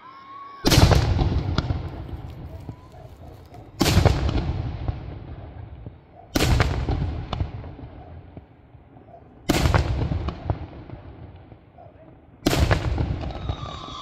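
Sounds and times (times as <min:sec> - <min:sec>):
fireworks bangs with rolling echo: 0:00.6 - 0:14.0.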